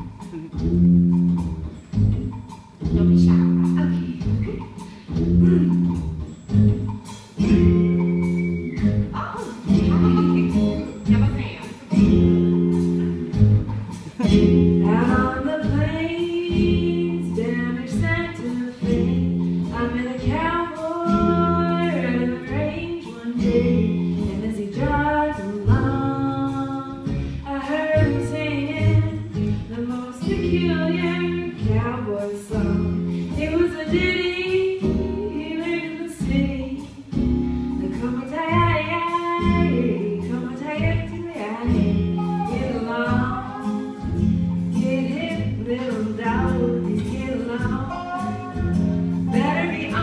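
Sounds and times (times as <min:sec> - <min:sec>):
instrumental accompaniment: 0:00.0 - 0:50.0
woman singing: 0:02.9 - 0:04.6, 0:09.1 - 0:13.3, 0:14.2 - 0:37.2, 0:37.8 - 0:50.0.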